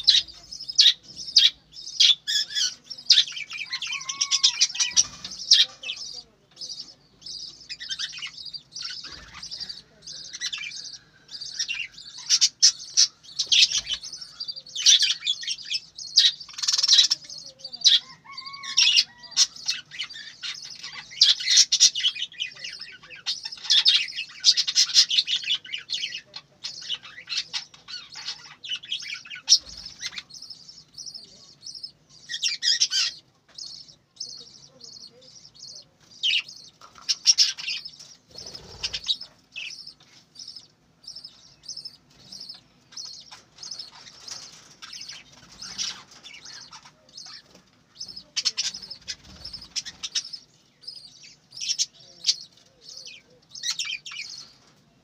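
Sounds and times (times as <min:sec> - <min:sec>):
budgerigars chattering: 0:00.0 - 0:54.7.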